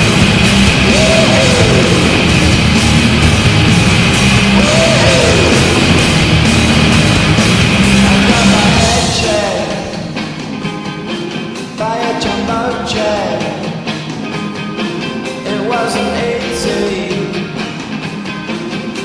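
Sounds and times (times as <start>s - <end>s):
rock song with singer and band: 0.0s - 19.0s.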